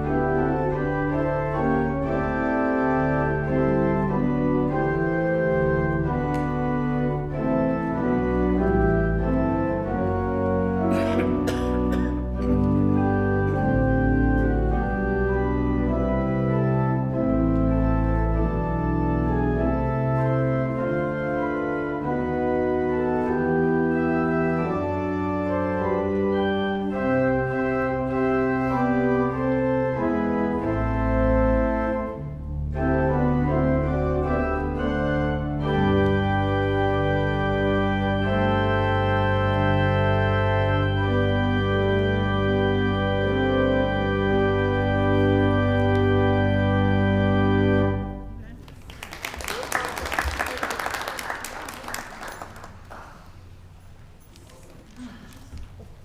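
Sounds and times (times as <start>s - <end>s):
organ music: 0.0s - 54.4s.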